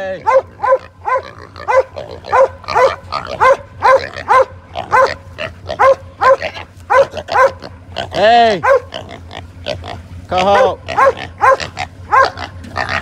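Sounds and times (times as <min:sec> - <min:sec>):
animal crying out: 0:00.0 - 0:13.0.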